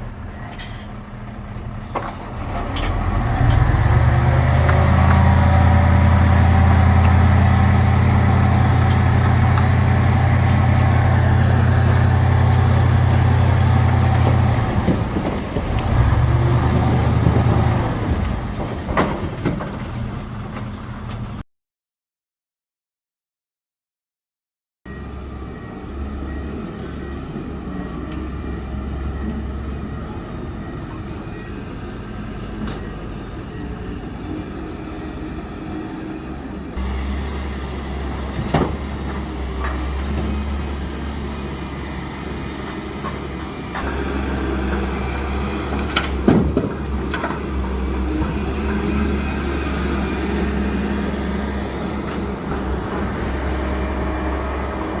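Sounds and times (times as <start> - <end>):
heavy machinery engine rumbling: 0.0 - 21.4, 24.9 - 55.0.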